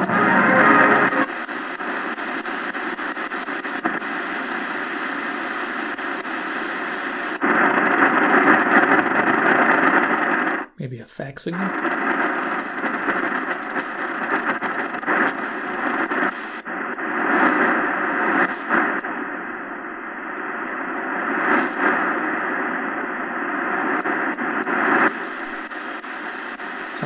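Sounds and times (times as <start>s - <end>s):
shortwave radio hiss: 0.2s - 27.0s.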